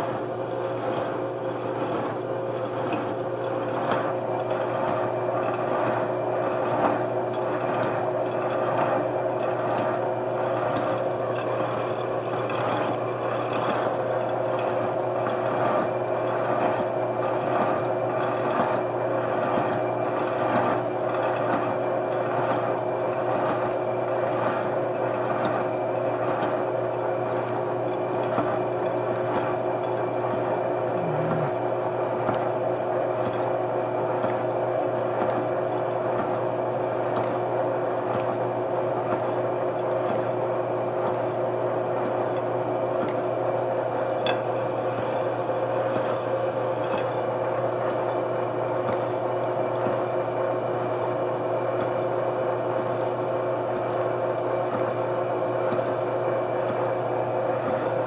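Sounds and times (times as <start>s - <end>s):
coolant running: 0.0s - 58.0s.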